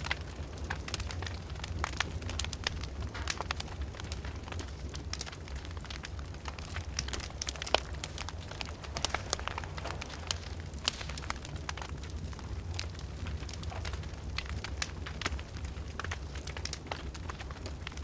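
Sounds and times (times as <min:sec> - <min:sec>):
fire pops and snaps: 0:00.0 - 0:18.0
low rumble of fire: 0:00.0 - 0:18.0.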